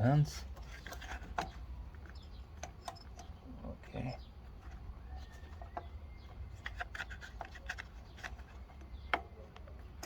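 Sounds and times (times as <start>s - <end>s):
plastic and rubber parts clicking: 0.4s - 3.4s, 4.1s - 10.0s.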